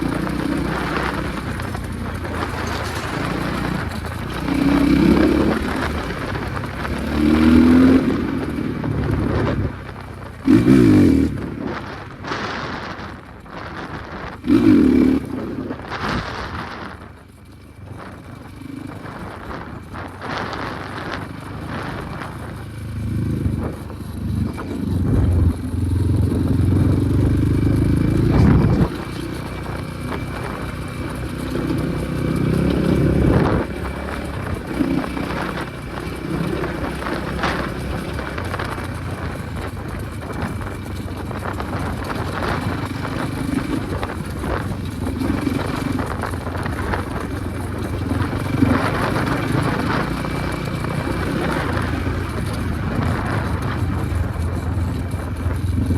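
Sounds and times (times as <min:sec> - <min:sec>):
motorcycle engine revving: 0:00.0 - 0:17.0, 0:17.9 - 0:55.9.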